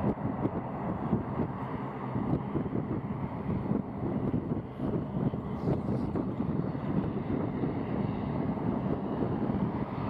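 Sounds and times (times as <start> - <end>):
turboprop engines rumbling: 0.0 - 10.0
wind buffeting microphone: 0.0 - 10.0.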